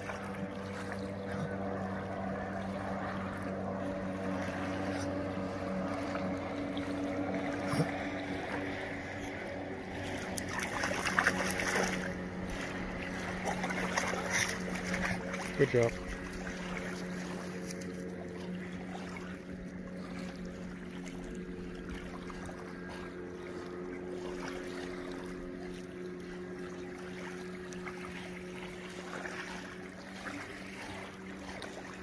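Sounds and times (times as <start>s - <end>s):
low engine hum: 0.0s - 32.0s
small waves lapping: 0.0s - 32.0s.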